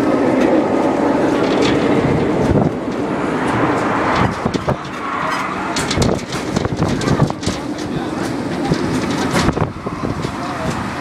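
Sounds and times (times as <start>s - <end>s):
tram running and rolling: 0.0s - 11.0s
wind buffeting microphone: 0.0s - 11.0s
clicks and rattles: 1.4s - 10.9s.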